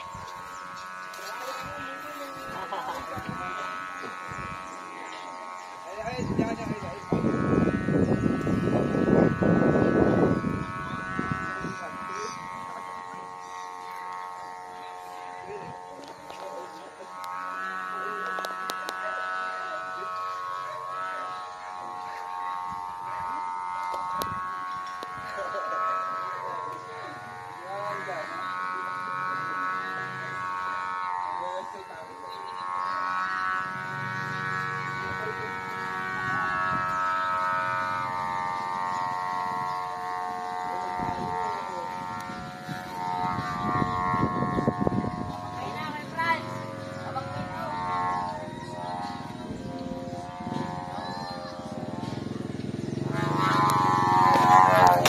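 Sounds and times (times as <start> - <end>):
kite hummer buzzing in wind: 0.0 - 55.0.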